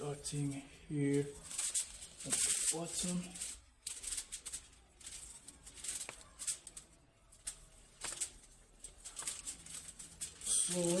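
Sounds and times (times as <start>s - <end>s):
leaves rustling and crackling: 0.0s - 11.0s.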